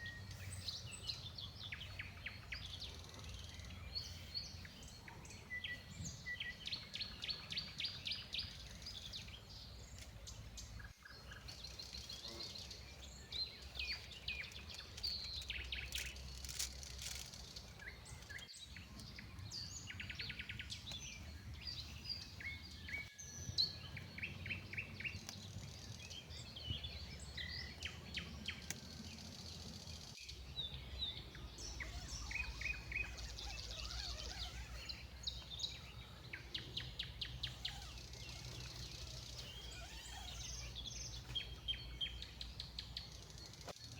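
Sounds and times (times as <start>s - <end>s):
birds chirping and trilling: 0.0s - 43.9s.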